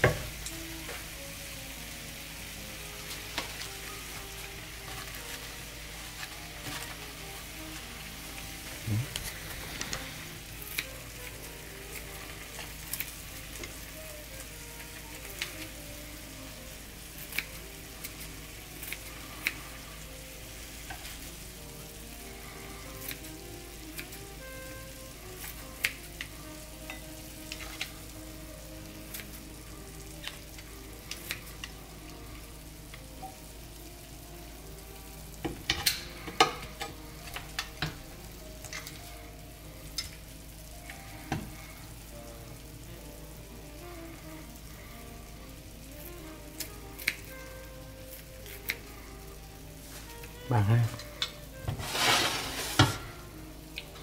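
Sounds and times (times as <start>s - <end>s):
meat sizzling in a pan: 0.0s - 54.0s.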